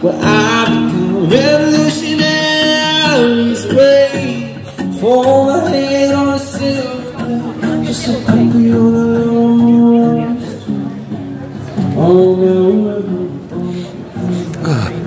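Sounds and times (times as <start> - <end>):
person singing amplified: 0.0 - 11.0, 11.8 - 15.0.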